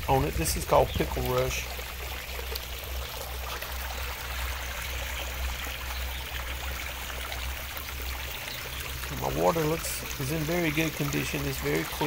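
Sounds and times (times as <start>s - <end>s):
fountain water splashing: 0.0s - 12.0s
low steady hum: 0.0s - 12.0s.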